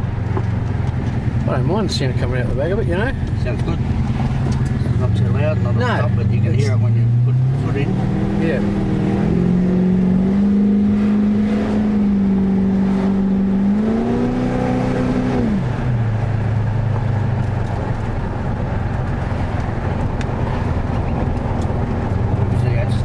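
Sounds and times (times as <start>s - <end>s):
car engine exhaust note: 0.0s - 23.0s.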